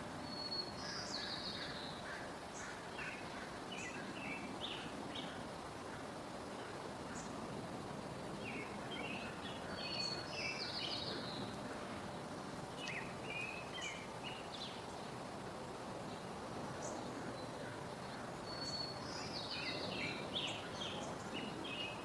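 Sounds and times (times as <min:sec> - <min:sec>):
outdoor background hiss: 0:00.0 - 0:22.0
songbird chirping and warbling: 0:00.2 - 0:07.4, 0:08.4 - 0:15.2, 0:16.1 - 0:22.0.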